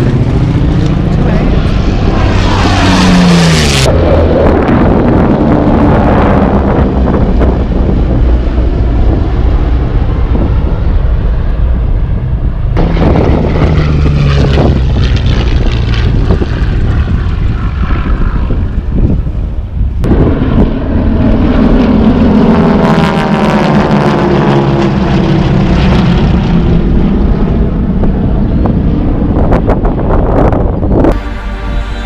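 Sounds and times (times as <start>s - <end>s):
propeller plane flying past: 0.0s - 32.0s.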